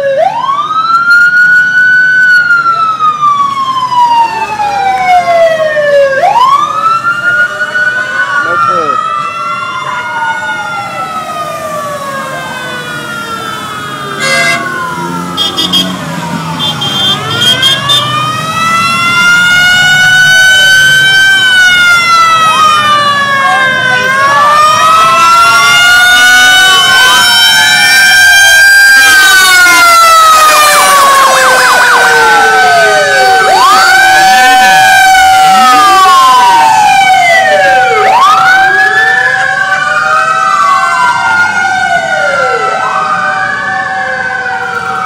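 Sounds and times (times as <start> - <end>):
sirens wailing: 0.0 - 45.0.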